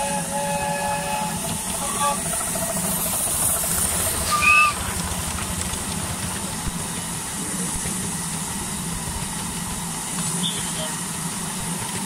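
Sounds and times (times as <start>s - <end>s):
low rumble of trains: 0.0s - 12.0s
steam hissing: 0.0s - 12.0s.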